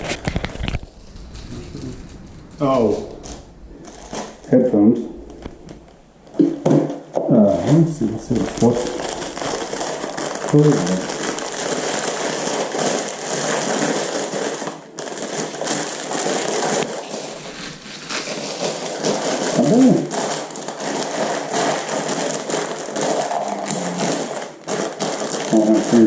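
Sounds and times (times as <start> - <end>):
packaging rustling and crinkling: 0.0 - 6.8, 7.5 - 26.0.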